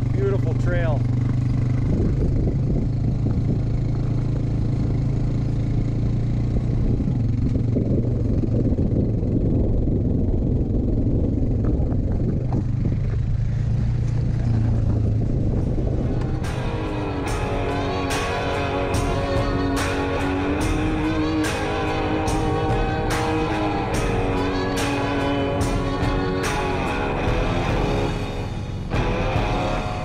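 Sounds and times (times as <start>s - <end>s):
tyre and chassis rattle: 0.0s - 9.4s, 10.0s - 30.0s
vehicle engine droning: 0.0s - 30.0s.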